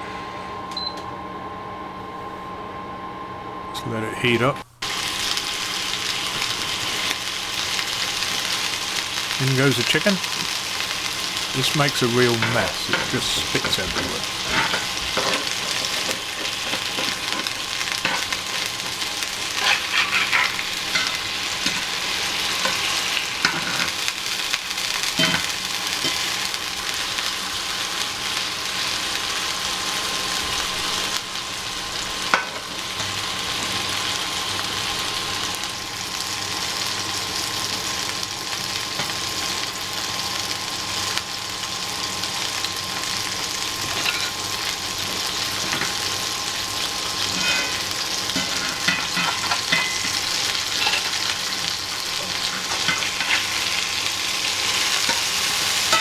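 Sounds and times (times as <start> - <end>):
chicken sizzling in frying pan: 3.9 - 56.0.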